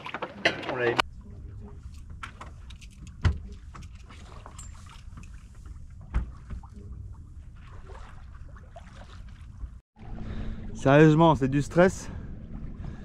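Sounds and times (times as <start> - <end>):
wind and water along hull: 0.0 - 13.0.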